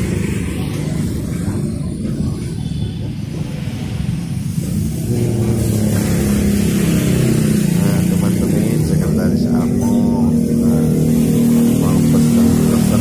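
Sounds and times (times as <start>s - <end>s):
engine-like hum: 0.0s - 13.0s
road traffic on wet street: 0.0s - 13.0s.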